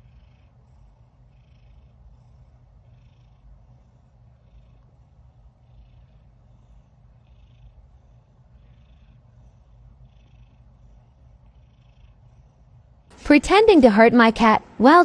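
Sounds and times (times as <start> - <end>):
cat purring: 0.0 - 13.6.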